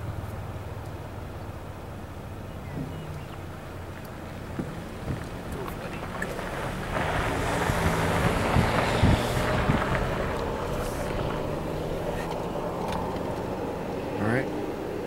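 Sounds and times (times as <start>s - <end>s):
vehicle engine humming: 0.0s - 15.0s
wind rushing across microphone: 2.6s - 15.0s.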